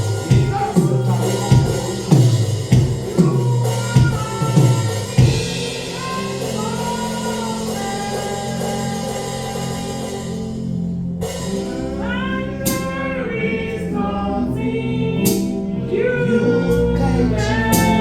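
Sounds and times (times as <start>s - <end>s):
drum kit beating: 0.0s - 13.9s, 16.7s - 18.0s
held chords: 0.0s - 18.0s
sung melody: 0.0s - 18.0s.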